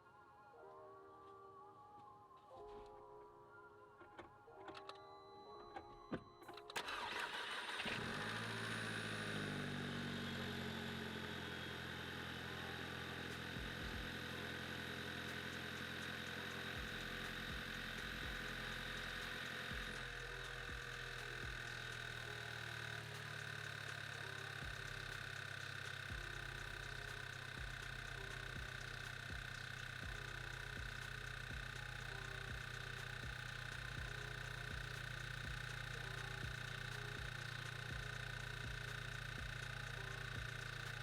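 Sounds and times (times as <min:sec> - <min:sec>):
car engine cranking and idling: 0:06.7 - 0:41.0.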